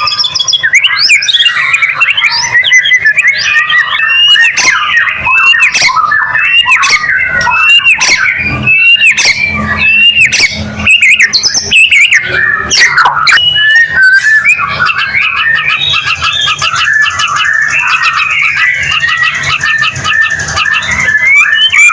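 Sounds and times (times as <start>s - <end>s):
songbird whistling and chattering: 0.0s - 21.9s.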